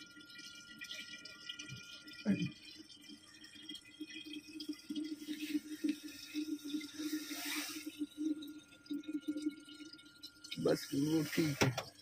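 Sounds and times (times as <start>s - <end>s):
water filling plastic bottle: 0.0s - 12.0s.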